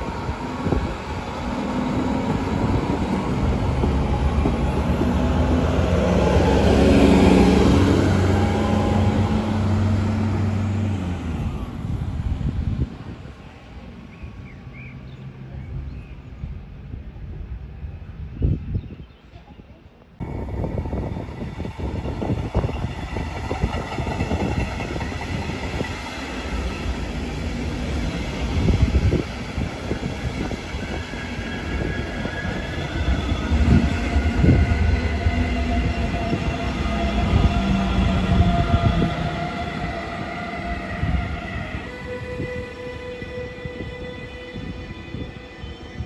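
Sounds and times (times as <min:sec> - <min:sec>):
train wheels rumbling on rail: 0:00.0 - 0:14.2, 0:20.2 - 0:46.0
electric locomotive whine: 0:00.0 - 0:14.4, 0:20.2 - 0:46.0.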